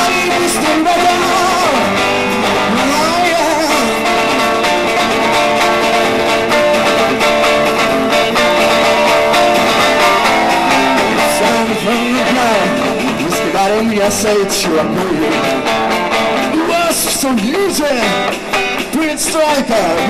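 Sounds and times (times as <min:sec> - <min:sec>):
electric guitars with bent notes: 0:00.0 - 0:20.0
person singing: 0:00.0 - 0:20.0
steady drum beat: 0:00.0 - 0:20.0.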